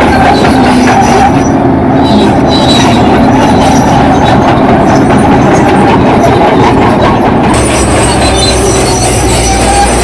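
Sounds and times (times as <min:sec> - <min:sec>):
bulldozer running: 0:00.0 - 0:10.0.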